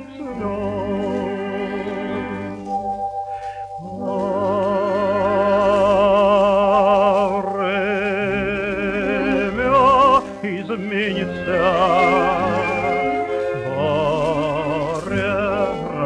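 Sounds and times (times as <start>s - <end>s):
orchestra accompaniment: 0.0s - 16.0s
person singing with vibrato: 0.0s - 16.0s.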